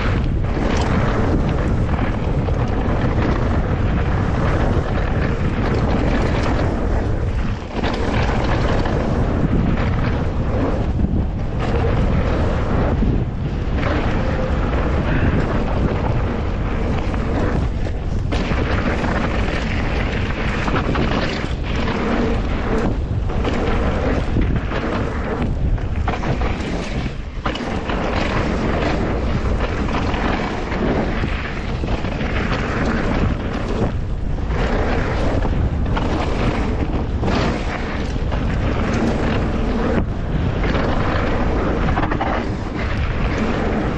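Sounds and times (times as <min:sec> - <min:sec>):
bike knocking over bumps: 0:00.0 - 0:43.9
tyres rumbling on gravel: 0:00.0 - 0:43.9
wind buffeting microphone: 0:00.0 - 0:43.9.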